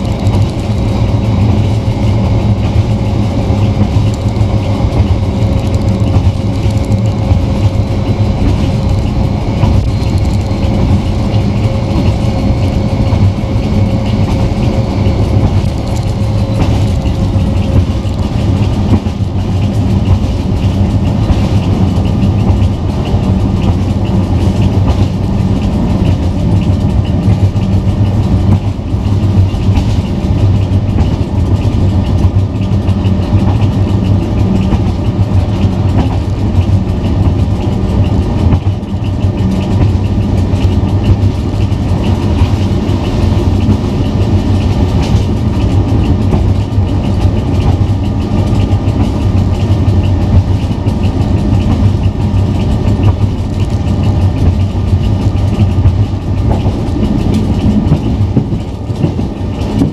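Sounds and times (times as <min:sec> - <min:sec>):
diesel engine drone: 0:00.0 - 0:59.9
train wheels on track: 0:00.0 - 0:59.9.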